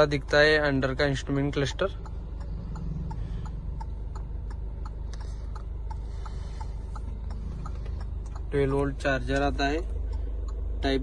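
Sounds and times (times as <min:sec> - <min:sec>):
diesel engine idling: 0:00.0 - 0:11.0
indicator ticking: 0:00.0 - 0:11.0.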